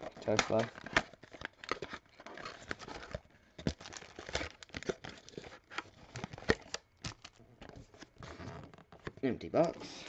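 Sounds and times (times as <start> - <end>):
plastic wrapping crinkling and tearing: 0.0 - 10.0.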